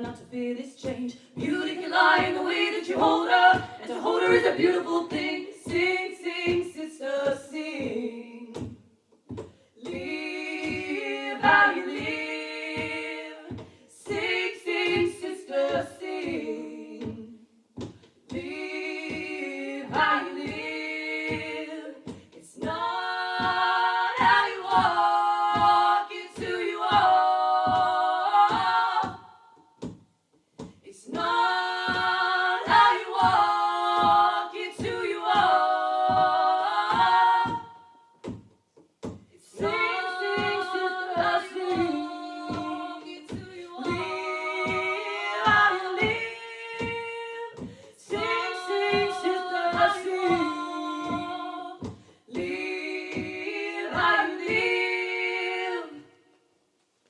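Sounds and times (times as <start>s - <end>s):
steady percussive beat: 0.0s - 56.2s
women singing wordless harmonies: 0.0s - 56.8s.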